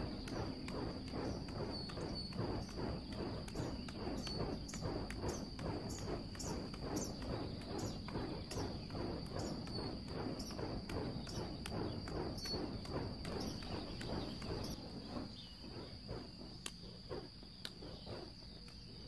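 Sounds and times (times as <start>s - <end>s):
flaming torches whooshing: 0.0s - 19.0s
high-pitched insect trill: 0.0s - 19.0s.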